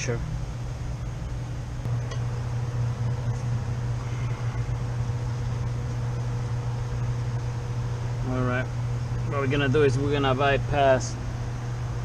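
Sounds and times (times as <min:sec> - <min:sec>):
air conditioning unit humming: 0:00.0 - 0:12.0.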